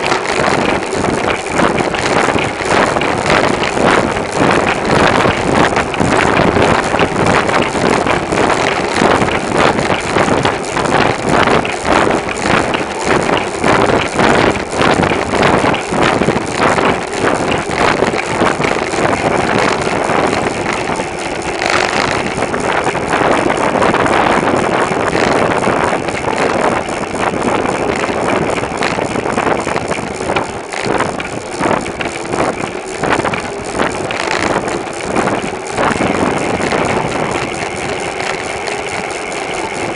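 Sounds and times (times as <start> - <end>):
bicycle road and rattle noise: 0.0 - 39.9
wind buffeting microphone: 0.0 - 39.9.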